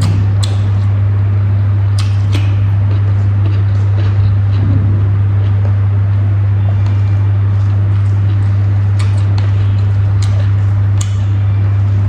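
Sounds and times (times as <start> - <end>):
loud low hum: 0.0 - 12.0
person eating by hand: 0.0 - 12.0.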